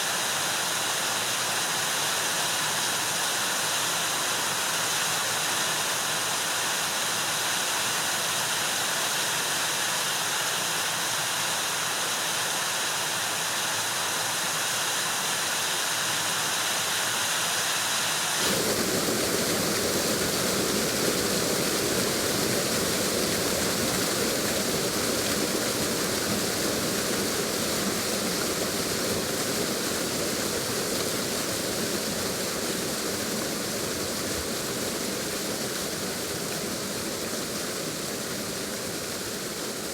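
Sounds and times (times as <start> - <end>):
waterfall rushing water: 0.0 - 39.9.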